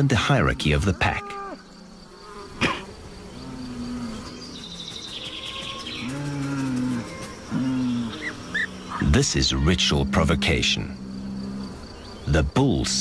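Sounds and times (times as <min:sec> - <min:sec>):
bulls lowing: 0:00.3 - 0:12.0.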